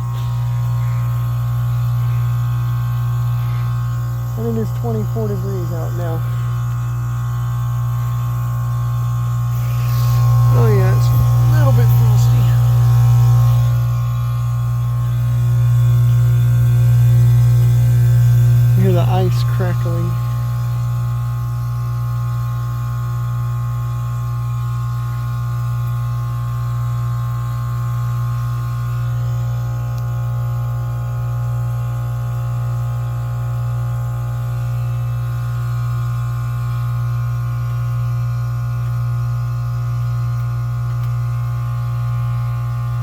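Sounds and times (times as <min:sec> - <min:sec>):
heat pump unit humming: 0:00.0 - 0:43.0.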